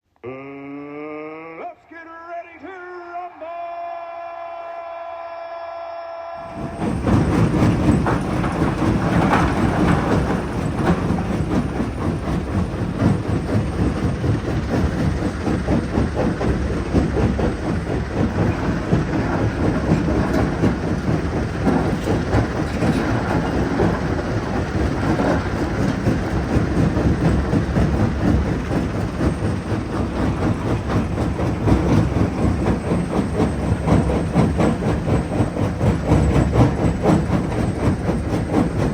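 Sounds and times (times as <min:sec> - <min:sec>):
low machine rumble: 0:06.5 - 0:38.9.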